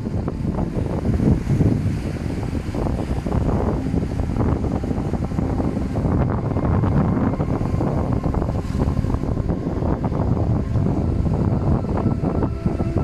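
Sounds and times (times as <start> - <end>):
sea surf washing over rocks: 0.0 - 13.0.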